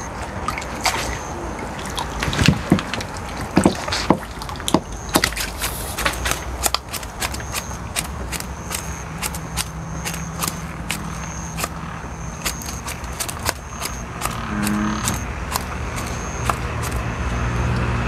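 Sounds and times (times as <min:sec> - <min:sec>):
small water splashes: 0:00.0 - 0:17.2
steady low hum: 0:00.0 - 0:18.0.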